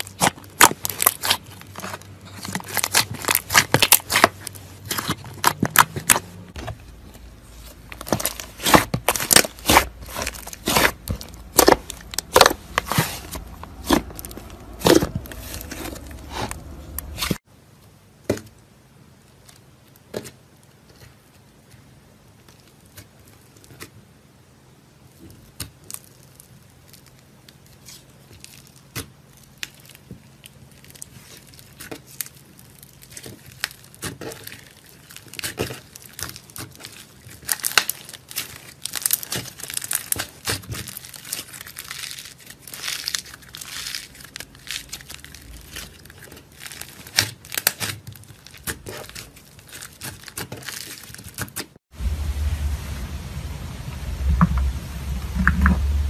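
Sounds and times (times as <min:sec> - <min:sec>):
clay slime crackling and popping: 0:00.0 - 0:17.4, 0:18.2 - 0:24.1, 0:25.0 - 0:51.8.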